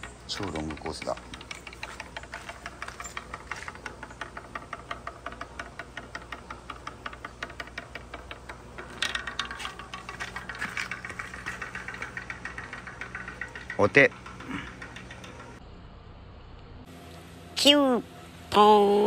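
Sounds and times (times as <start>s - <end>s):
marble clacking down wooden track: 0.0s - 15.6s.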